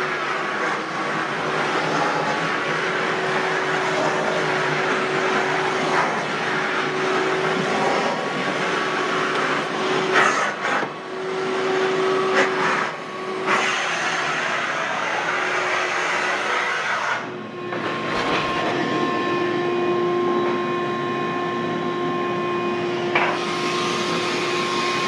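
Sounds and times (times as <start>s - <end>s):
shop vacuum running: 0.0s - 25.0s.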